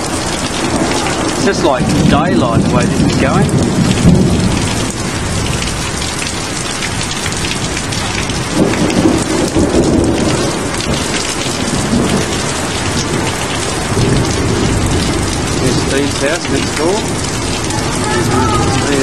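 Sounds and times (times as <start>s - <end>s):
steady rain pouring: 0.0s - 19.0s
thunder rumbling: 0.0s - 19.0s.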